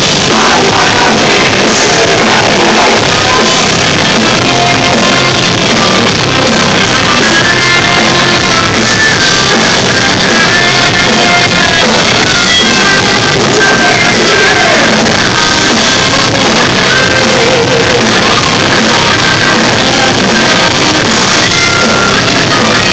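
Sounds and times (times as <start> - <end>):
rock band playing loud: 0.0 - 22.9
sung and shouted vocals: 0.0 - 22.9.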